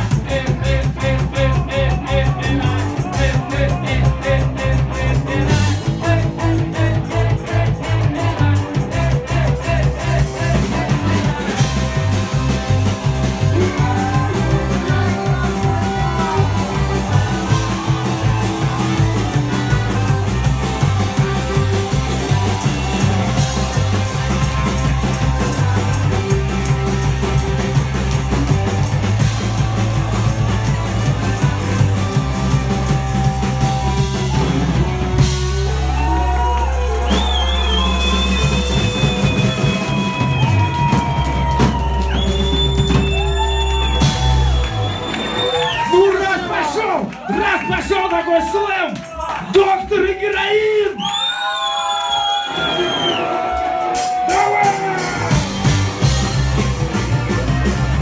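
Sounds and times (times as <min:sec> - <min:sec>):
held low bass: 0:00.0 - 0:45.2, 0:55.2 - 0:58.0
rock music: 0:00.0 - 0:50.3, 0:52.6 - 0:58.0.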